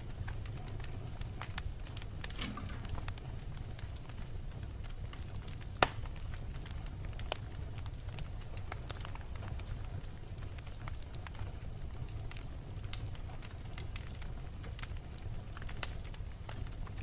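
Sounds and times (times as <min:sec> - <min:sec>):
burning logs crackling and popping: 0:00.0 - 0:17.0
low rumble of flame: 0:00.0 - 0:17.0.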